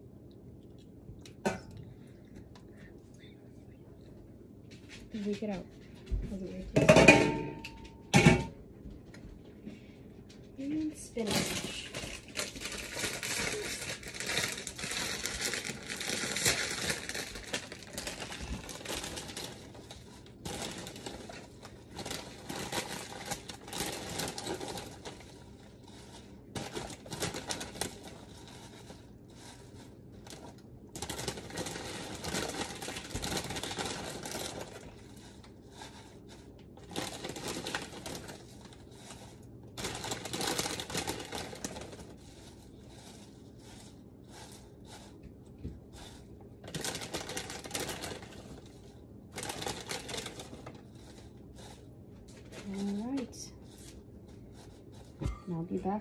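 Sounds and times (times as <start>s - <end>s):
plastic bag crinkling: 10.6s - 56.0s.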